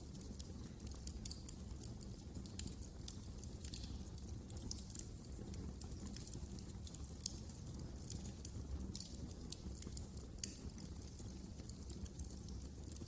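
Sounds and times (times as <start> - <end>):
low rumble of burning: 0.0 - 13.0
wood fire crackling: 0.0 - 13.0.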